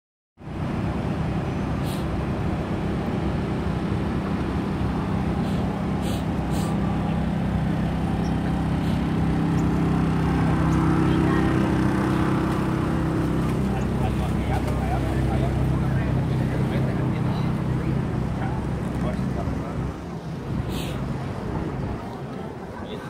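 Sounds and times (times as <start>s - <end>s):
low engine hum: 0.4s - 23.0s.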